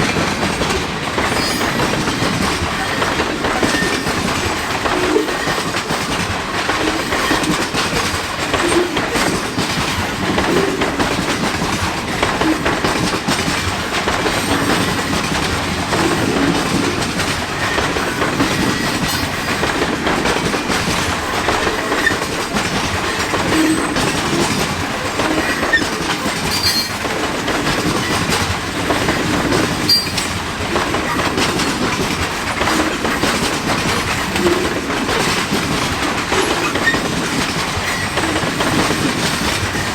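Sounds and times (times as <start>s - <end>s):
freight train rolling past: 0.0s - 39.9s
wheels clicking over rail joints: 0.0s - 39.9s.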